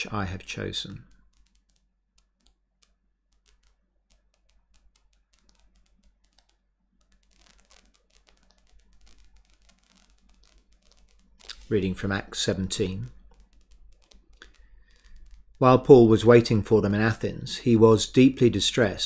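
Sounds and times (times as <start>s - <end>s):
faint rapid clicking: 0.0s - 18.9s.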